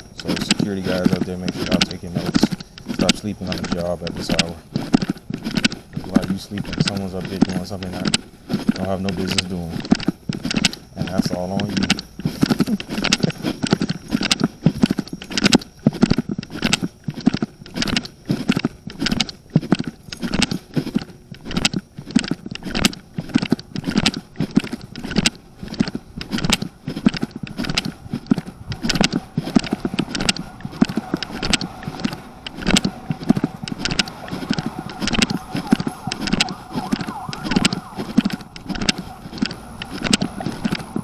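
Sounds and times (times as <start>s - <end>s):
faint steady tones: 0.0s - 41.0s.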